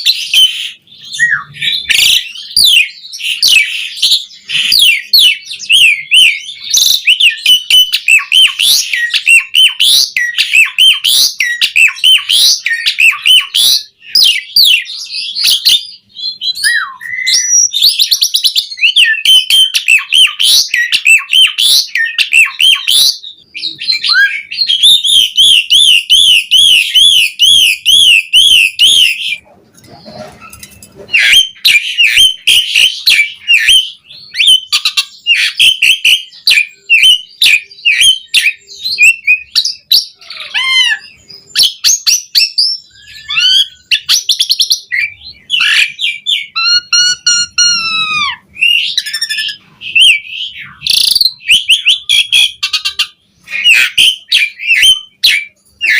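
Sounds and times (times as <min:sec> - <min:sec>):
starling singing: 0:00.0 - 0:55.9.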